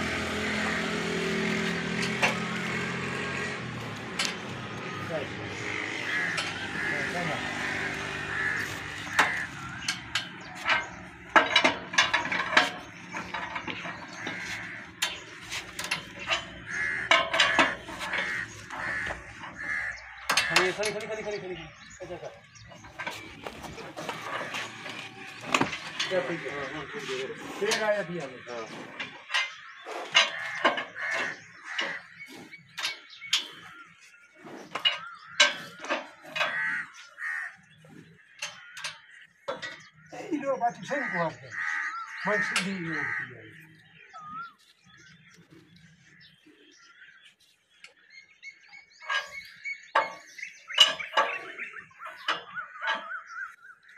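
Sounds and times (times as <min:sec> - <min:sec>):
chain hoist clicking and clanking: 0:00.0 - 0:34.0, 0:34.6 - 0:37.0, 0:38.3 - 0:42.9, 0:49.0 - 0:53.5.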